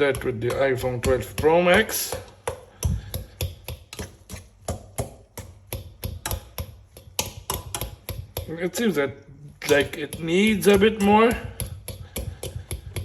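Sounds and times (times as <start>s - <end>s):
metal utensil knocking bowl: 0.0s - 8.8s, 9.6s - 13.0s.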